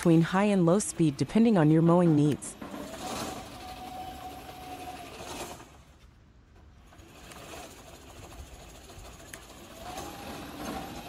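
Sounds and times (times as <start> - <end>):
electric track motors whining: 0.2 - 6.0, 6.6 - 11.0.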